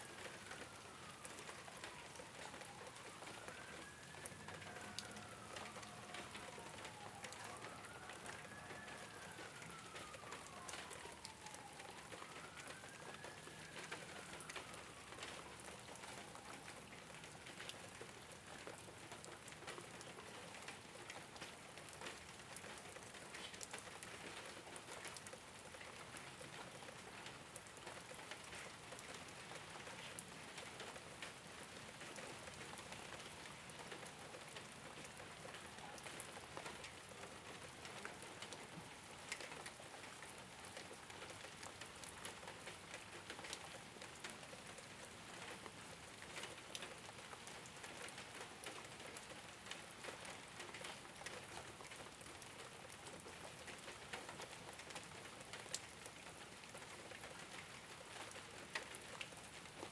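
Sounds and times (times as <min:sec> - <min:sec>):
rain on a rooftop: 0:00.0 - 0:59.9.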